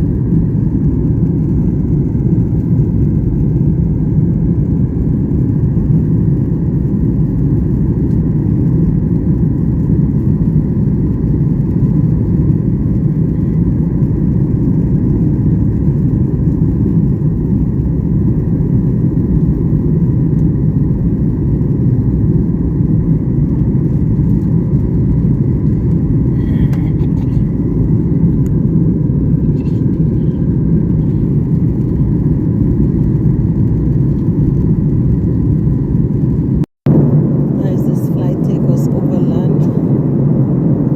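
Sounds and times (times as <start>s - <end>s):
airliner cabin engine roar: 0.0s - 40.9s.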